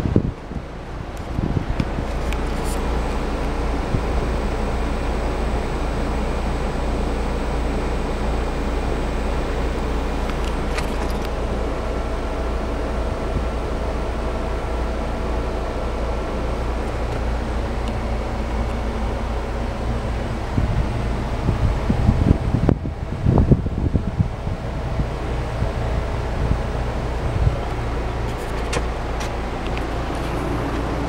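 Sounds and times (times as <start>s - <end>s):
heat pump fan rushing: 0.0s - 31.0s
faint high whine: 0.6s - 31.0s.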